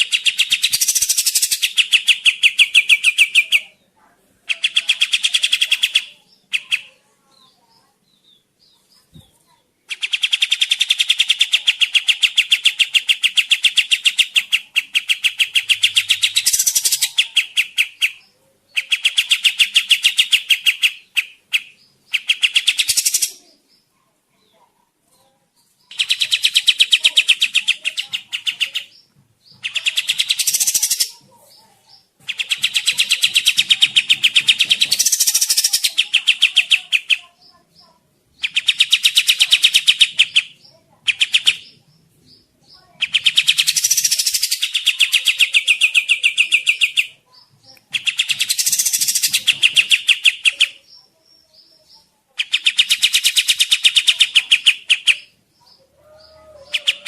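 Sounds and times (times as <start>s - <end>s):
bird singing chattering notes: 0.0s - 3.9s, 4.5s - 24.7s, 25.5s - 57.0s.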